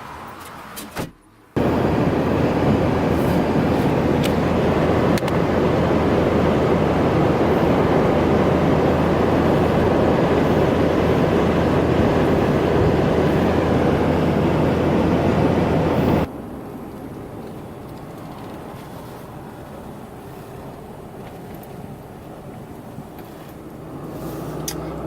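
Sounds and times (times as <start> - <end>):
road and engine noise in truck cab: 0.0 - 25.0
low hum: 1.6 - 23.1.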